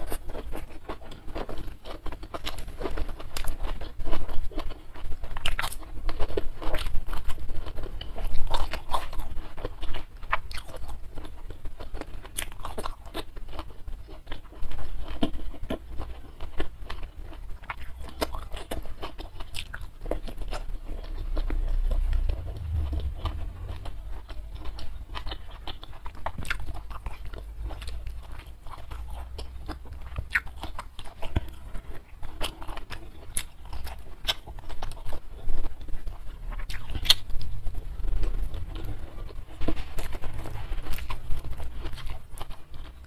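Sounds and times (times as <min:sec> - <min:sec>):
chewing with mouth clicks: 0:00.0 - 0:43.0.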